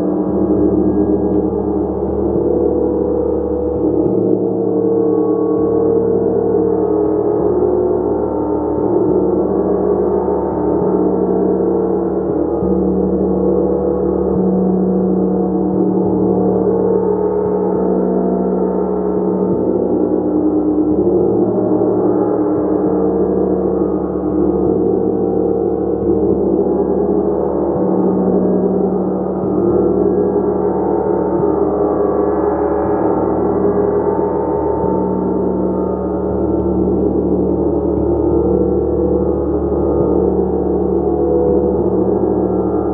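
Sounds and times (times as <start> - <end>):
sustained gong wash: 0.0 - 42.9.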